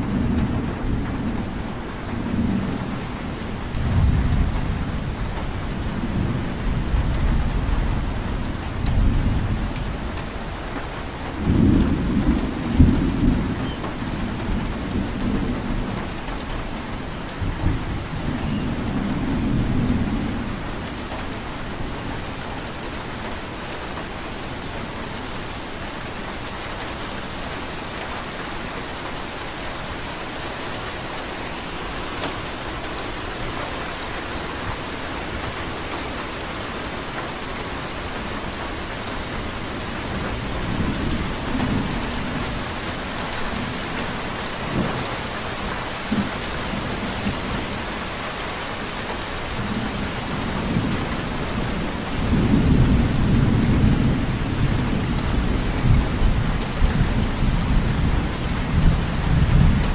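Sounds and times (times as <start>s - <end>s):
rainfall hiss: 0.0s - 59.9s.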